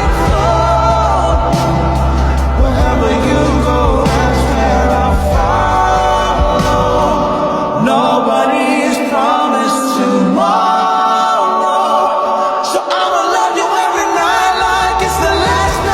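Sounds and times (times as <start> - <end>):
layered sung vocals: 0.0 - 15.9.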